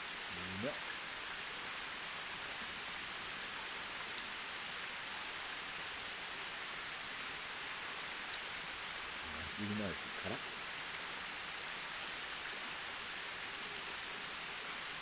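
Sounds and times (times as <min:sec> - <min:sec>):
outdoor night ambience hiss: 0:00.0 - 0:15.0.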